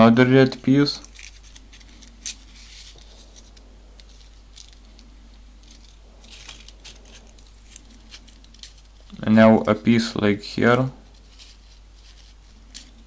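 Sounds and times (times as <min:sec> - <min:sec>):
paper crinkles: 0:00.4 - 0:13.0
paper rustling and scraping: 0:00.4 - 0:13.0.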